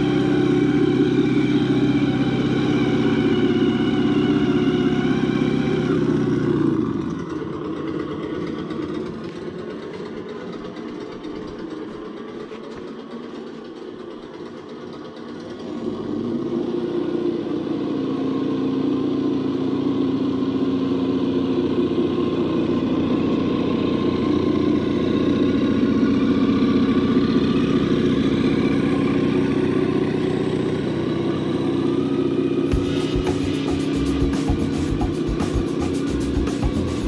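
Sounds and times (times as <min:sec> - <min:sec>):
simulated engine sound from speaker: 0:00.0 - 0:37.0.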